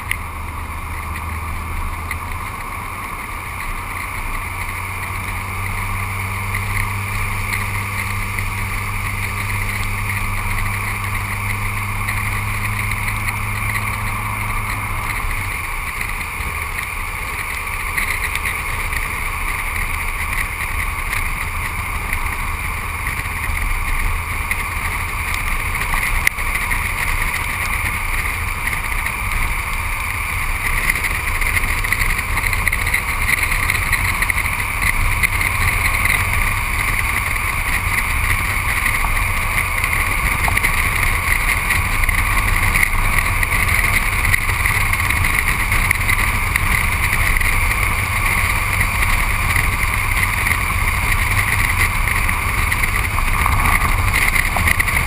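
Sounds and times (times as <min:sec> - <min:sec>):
low engine hum: 0:00.0 - 0:55.0
rough low rumble: 0:00.0 - 0:55.0.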